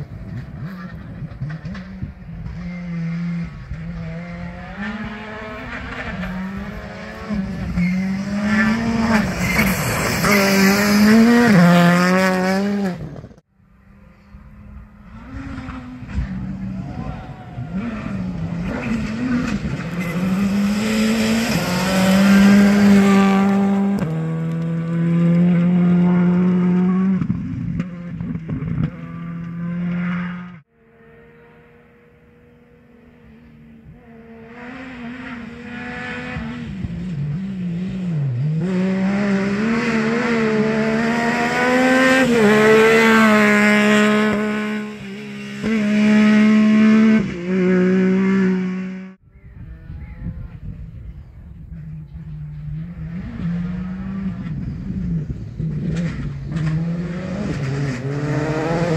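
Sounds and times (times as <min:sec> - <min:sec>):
rally car accelerating through gears: 0:00.0 - 0:49.8, 0:52.2 - 0:58.9
rally car engine revving: 0:00.0 - 0:50.7, 0:51.7 - 0:58.9.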